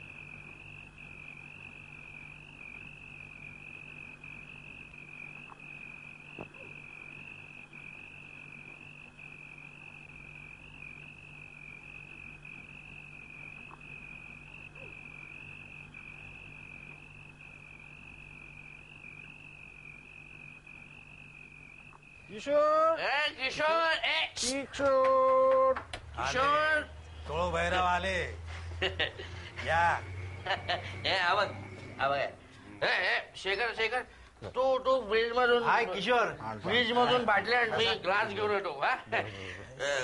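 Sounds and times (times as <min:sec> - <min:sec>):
faint low hum: 0:00.0 - 0:40.0
night animals chirring: 0:00.0 - 0:40.0.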